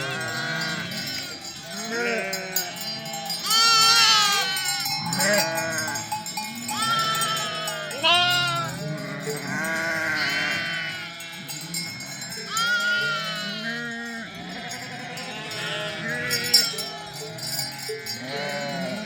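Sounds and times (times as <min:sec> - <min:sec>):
sheep bleating: 0:00.0 - 0:19.0.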